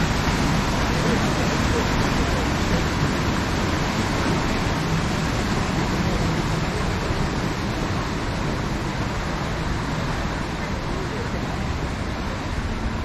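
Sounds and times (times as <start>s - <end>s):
paddle wheels churning water: 0.0s - 13.0s.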